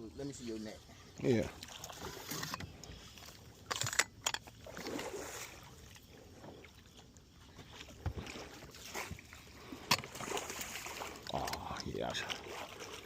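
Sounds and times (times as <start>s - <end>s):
water lapping around boat: 0.0s - 13.0s.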